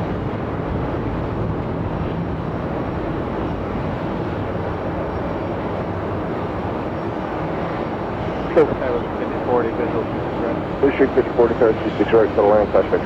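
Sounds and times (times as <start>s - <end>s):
distant jet engine noise: 0.0s - 13.0s.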